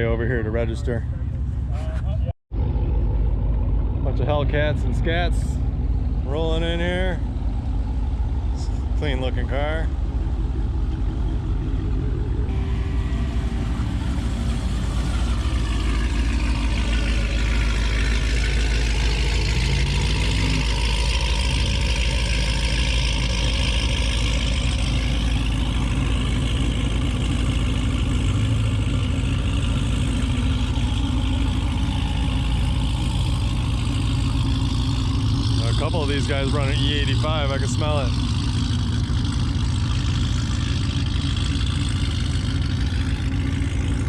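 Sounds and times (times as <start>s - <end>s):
car engines idling and rumbling: 0.0s - 44.0s.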